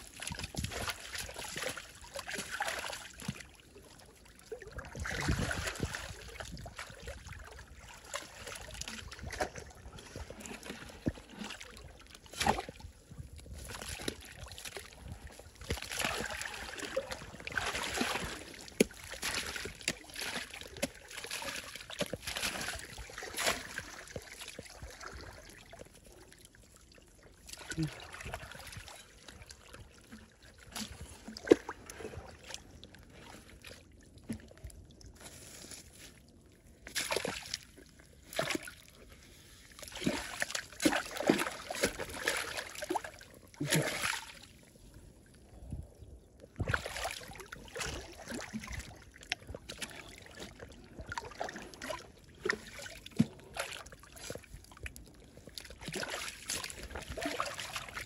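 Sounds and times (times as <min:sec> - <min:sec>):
stream water splashing: 0:00.0 - 0:34.6, 0:35.2 - 0:44.9, 0:46.6 - 0:58.0.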